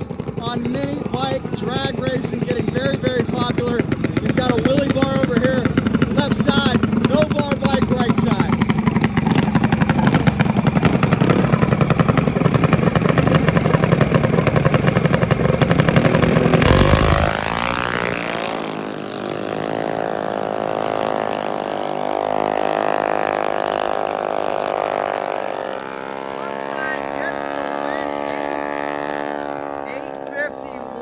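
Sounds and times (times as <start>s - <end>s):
mini bike engines revving: 0.0s - 31.0s.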